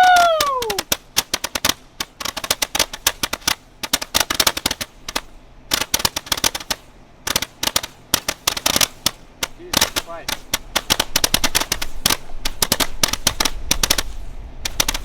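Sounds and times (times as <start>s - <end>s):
firecrackers cracking: 0.0s - 15.0s.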